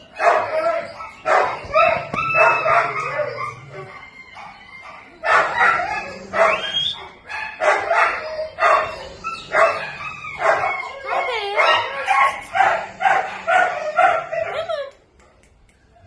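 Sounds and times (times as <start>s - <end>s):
dog barking and yelping: 0.0s - 14.9s.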